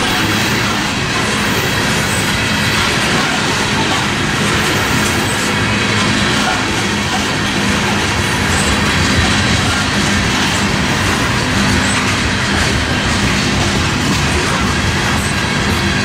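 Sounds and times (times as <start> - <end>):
freight train wheels clattering: 0.0 - 16.0.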